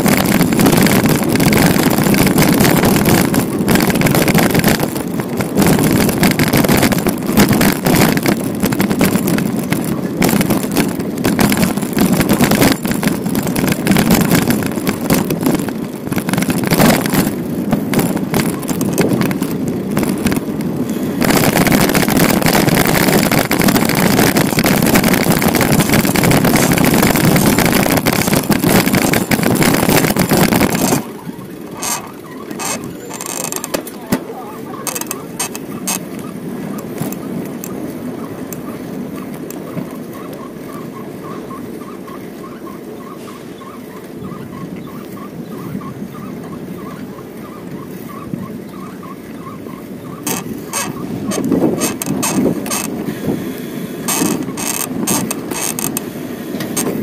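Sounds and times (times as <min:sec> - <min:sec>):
bicycle tyre noise: 0:00.0 - 0:57.0
rushing wind: 0:00.0 - 0:57.0.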